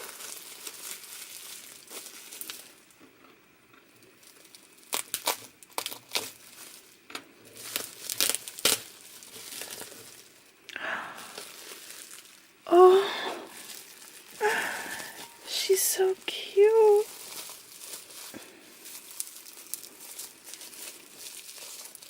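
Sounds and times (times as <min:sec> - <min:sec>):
packaging crinkling and tearing: 0:00.0 - 0:03.0, 0:04.0 - 0:22.0.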